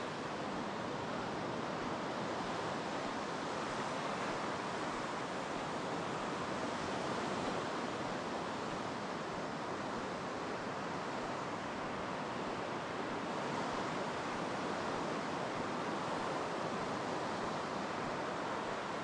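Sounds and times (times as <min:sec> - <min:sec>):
ocean surf on sandy beach: 0:00.0 - 0:19.0.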